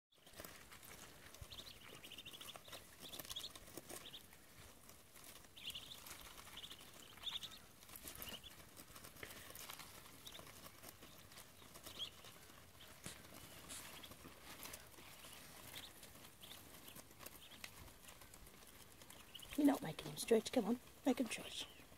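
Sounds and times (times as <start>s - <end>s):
bills pecking leaf clicks: 0.1s - 21.9s
ducklings peeping: 0.1s - 21.9s.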